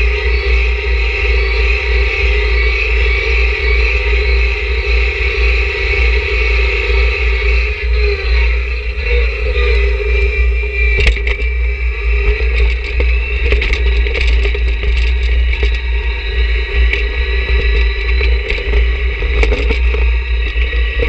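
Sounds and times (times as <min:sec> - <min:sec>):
high whine: 0:00.0 - 0:21.0
tractor diesel engine rumbling: 0:00.0 - 0:21.0.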